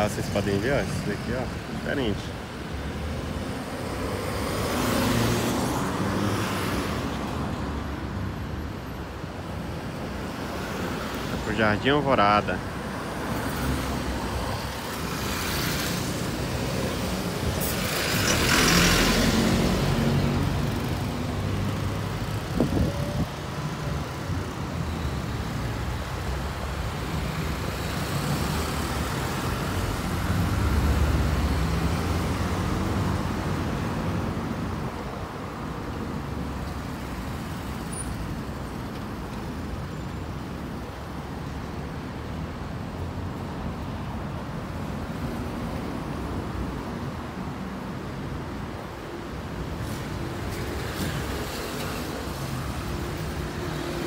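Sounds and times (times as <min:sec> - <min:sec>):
cars and buses passing: 0:00.0 - 0:54.0.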